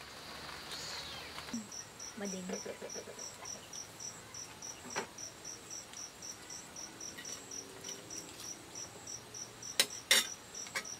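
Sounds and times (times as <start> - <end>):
insect chirping: 0.0 - 10.9.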